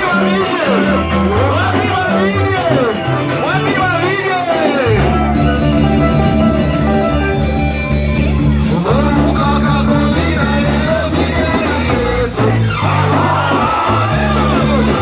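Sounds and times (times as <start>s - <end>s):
upbeat band music: 0.0s - 15.0s.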